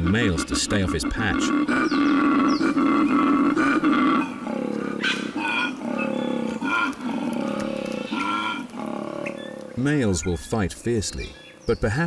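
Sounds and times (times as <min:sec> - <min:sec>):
koala bellowing: 0:00.0 - 0:10.4.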